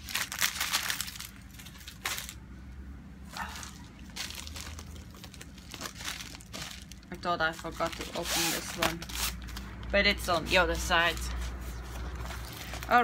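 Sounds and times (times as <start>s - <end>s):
plastic packaging crinkling: 0.0s - 2.4s, 3.6s - 9.8s, 10.7s - 13.0s.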